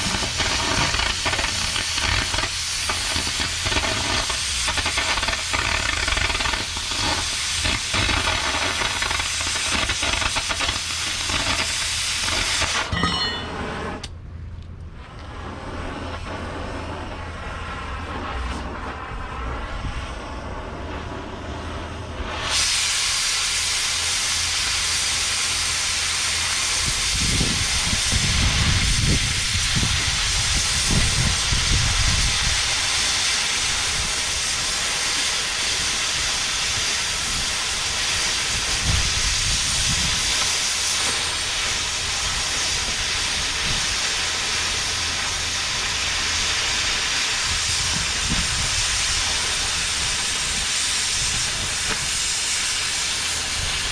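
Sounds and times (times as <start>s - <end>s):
cutting torch hissing: 0.0s - 14.1s, 15.1s - 53.9s.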